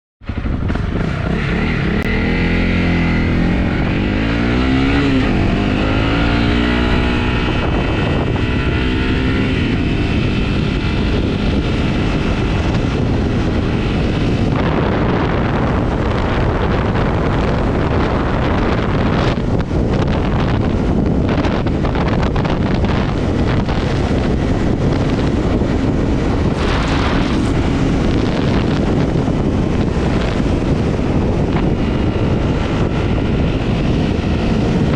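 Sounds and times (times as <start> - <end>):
motorcycle engine revving: 0.2 - 34.9
wind buffeting microphone: 0.2 - 34.9.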